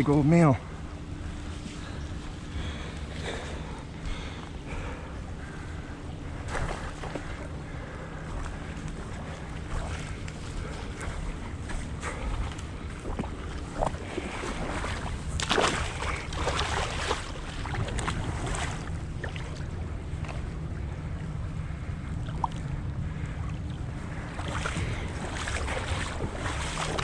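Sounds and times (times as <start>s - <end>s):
water sloshing and splashing: 0.0s - 27.0s
wind rumble on microphone: 0.0s - 27.0s.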